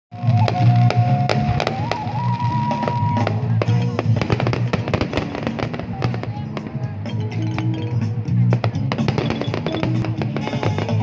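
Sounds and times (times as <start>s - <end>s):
fireworks bangs and crackles: 0.1s - 11.0s
loud music: 0.1s - 11.0s.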